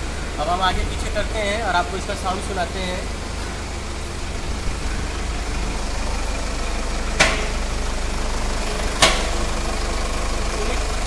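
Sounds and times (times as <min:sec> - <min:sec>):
car engine idling: 0:00.0 - 0:11.0
suspension clunks: 0:00.0 - 0:11.0.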